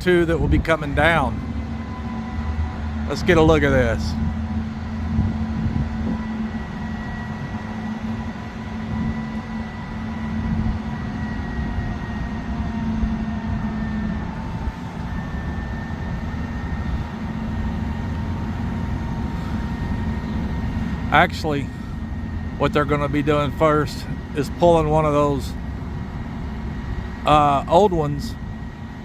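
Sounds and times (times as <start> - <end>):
heavy machinery droning: 0.0 - 29.0
faint whining tones: 0.4 - 29.0.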